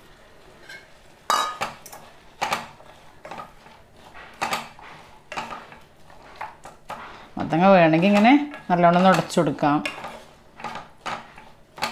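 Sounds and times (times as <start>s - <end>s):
spoon scraping against pan: 0.6s - 11.9s.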